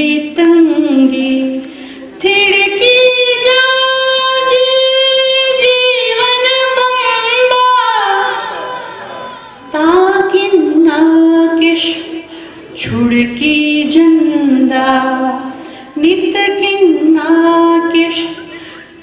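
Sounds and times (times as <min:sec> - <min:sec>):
woman singing unaccompanied: 0:00.0 - 0:01.6, 0:02.2 - 0:08.8, 0:09.7 - 0:18.5.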